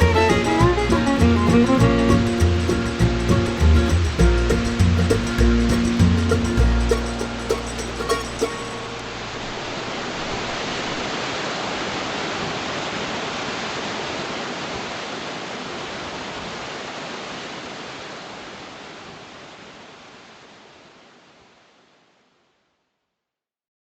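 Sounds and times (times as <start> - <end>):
waterfall rushing: 0.0 - 20.8.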